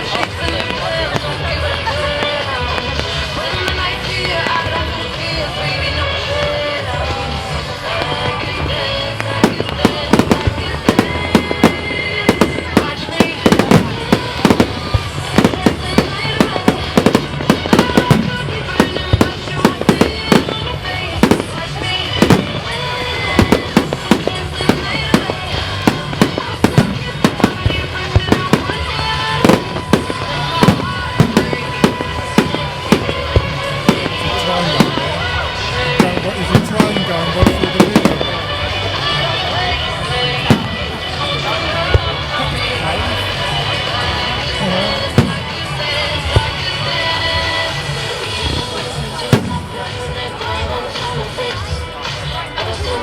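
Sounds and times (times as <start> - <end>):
fireworks cracking and banging: 0.0 - 53.0
music playing: 0.0 - 53.0.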